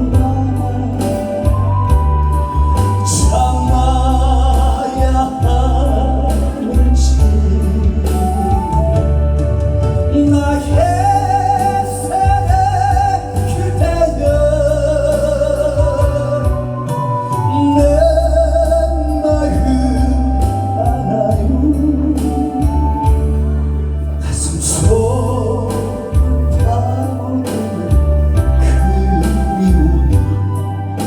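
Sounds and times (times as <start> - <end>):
steady bass line: 0.0 - 31.0.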